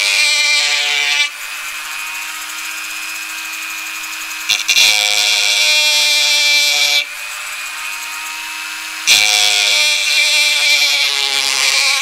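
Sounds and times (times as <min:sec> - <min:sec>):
rotary tool grinding: 0:00.0 - 0:12.0
rotary tool whine: 0:00.0 - 0:12.0.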